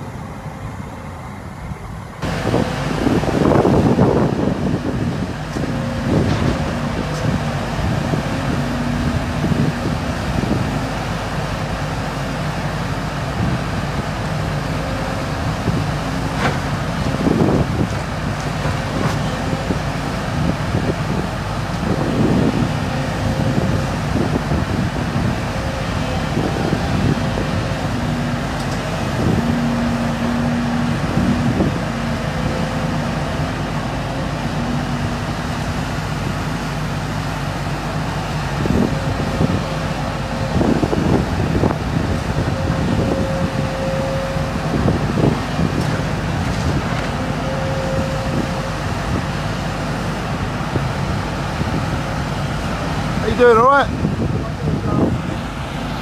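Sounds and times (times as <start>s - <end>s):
excavator running: 0.0s - 56.0s.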